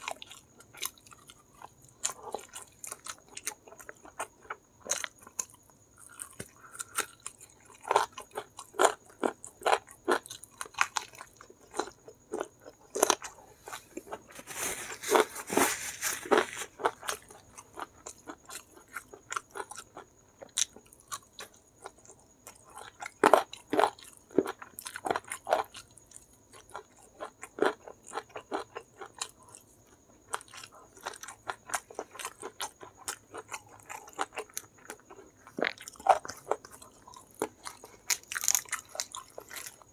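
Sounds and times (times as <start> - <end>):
chewing and crunching fried chicken: 0.0 - 39.9.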